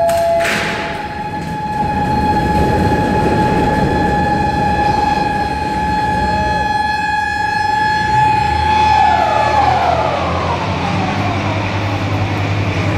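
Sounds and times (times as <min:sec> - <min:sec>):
broad rumble: 0:00.2 - 0:12.9.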